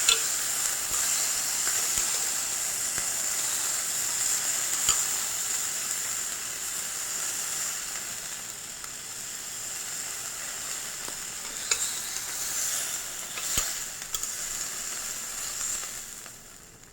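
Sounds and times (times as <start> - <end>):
beef sizzling on hot plate: 0.0 - 16.9.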